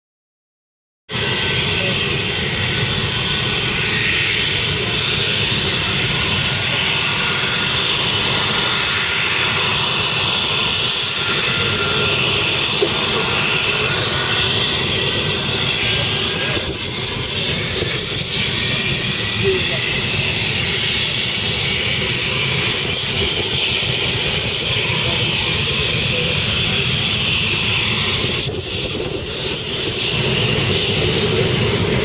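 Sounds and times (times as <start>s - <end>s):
jet engine whine: 1.1s - 32.0s.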